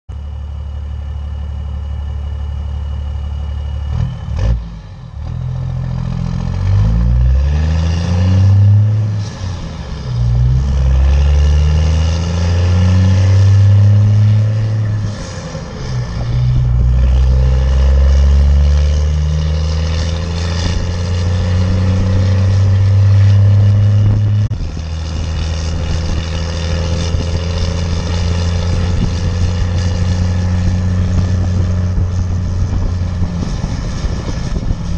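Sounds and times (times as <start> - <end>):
diesel truck engine accelerating: 0.1 - 34.9.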